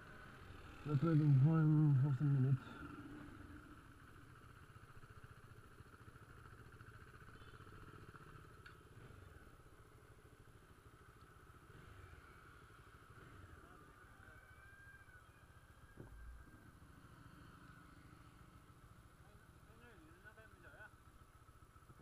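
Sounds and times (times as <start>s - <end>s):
motorcycle engines idling: 0.0s - 22.0s.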